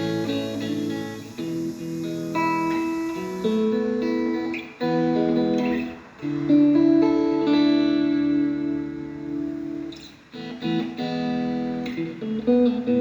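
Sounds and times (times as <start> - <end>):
clean electric guitar playing: 0.0 - 13.0.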